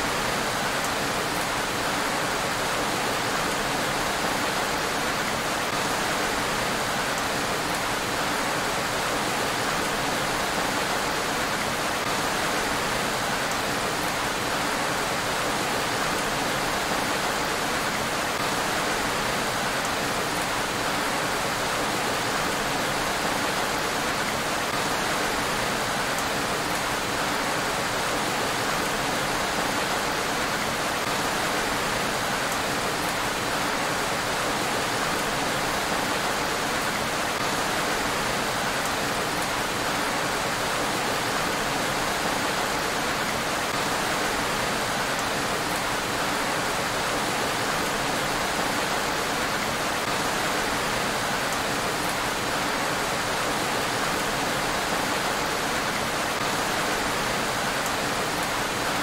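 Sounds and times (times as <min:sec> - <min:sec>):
rain falling on a road: 0:00.0 - 0:59.0.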